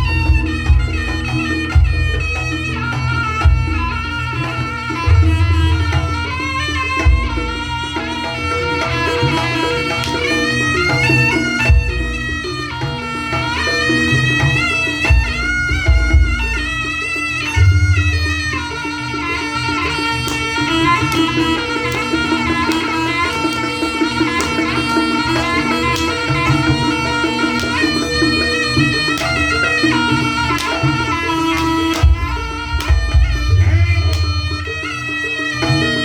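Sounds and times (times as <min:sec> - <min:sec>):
drumming: 0:00.0 - 0:36.0
reedy shawm melody: 0:00.0 - 0:36.0.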